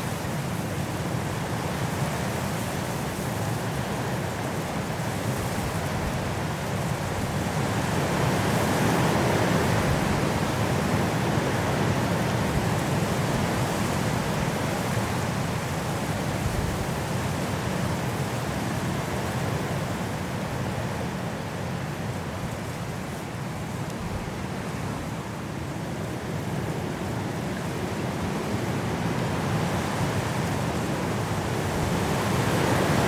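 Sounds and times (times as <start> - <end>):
strong wind through trees: 0.0 - 33.0.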